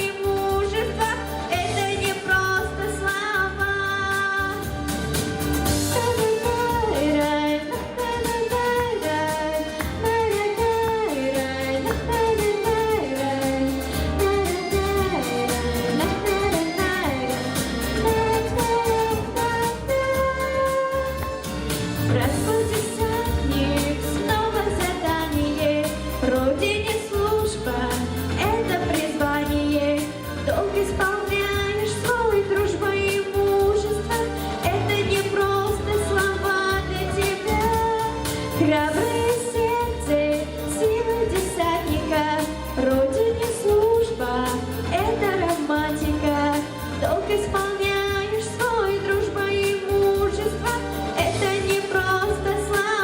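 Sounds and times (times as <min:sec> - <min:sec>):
backing track with steady beat: 0:00.0 - 0:53.0.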